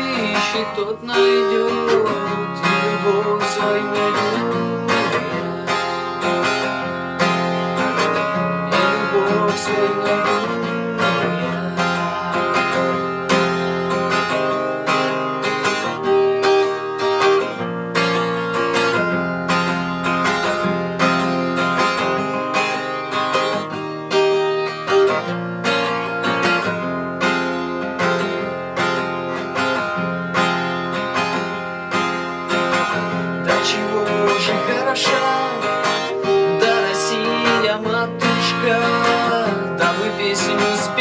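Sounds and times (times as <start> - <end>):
strummed acoustic guitar: 0.0 - 41.0.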